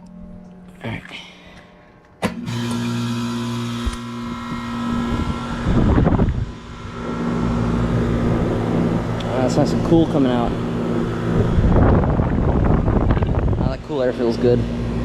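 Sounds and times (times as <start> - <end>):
air conditioner compressor hum: 0.8 - 15.0.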